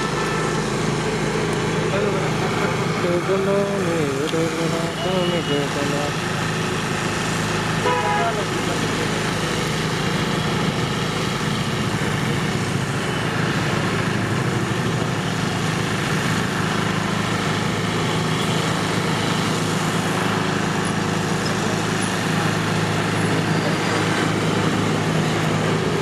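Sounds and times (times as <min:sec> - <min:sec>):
steady machine hum with hiss: 0:00.0 - 0:26.0.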